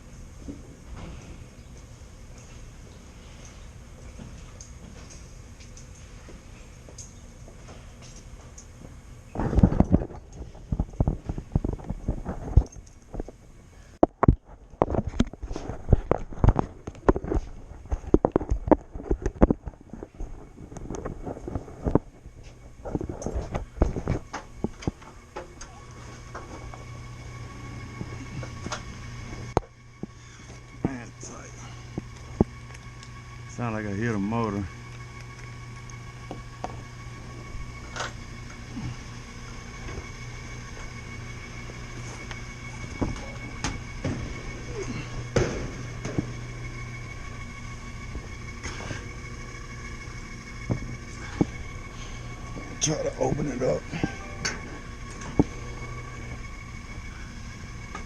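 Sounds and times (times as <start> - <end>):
low hum with high whine: 0.0 - 58.0.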